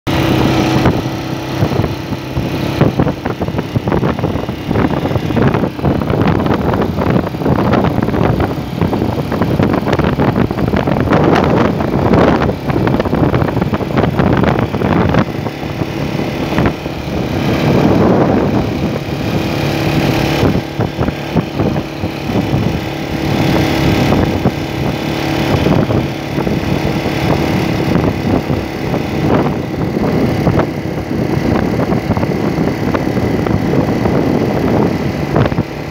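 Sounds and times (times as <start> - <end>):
motorcycle engine running: 0.1 - 35.9
wind buffeting microphone: 0.1 - 35.9.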